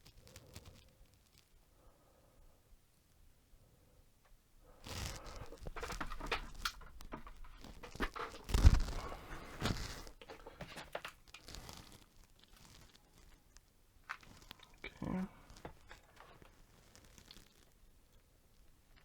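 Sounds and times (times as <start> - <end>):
rustling: 0.0 - 2.1, 4.6 - 19.0.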